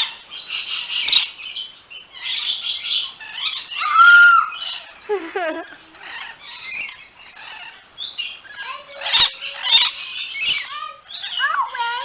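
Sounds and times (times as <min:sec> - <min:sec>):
parrot chirps and squawks: 0:00.0 - 0:12.0.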